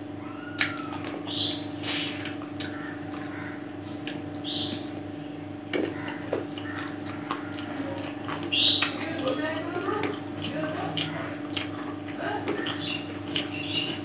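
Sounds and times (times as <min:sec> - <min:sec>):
steady low hum: 0:00.0 - 0:14.0
chewing with lip smacks: 0:01.9 - 0:04.8, 0:05.7 - 0:14.0.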